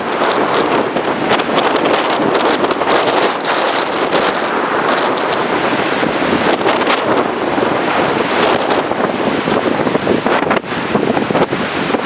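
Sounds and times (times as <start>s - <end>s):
surf breaking and washing: 0.0s - 12.0s
wind buffeting microphone: 0.0s - 12.0s.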